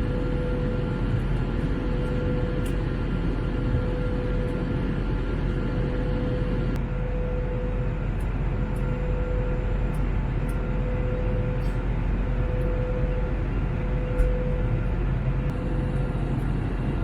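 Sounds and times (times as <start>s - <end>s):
constant hum: 0.0s - 17.0s
jet engines and airflow roar: 0.0s - 17.0s.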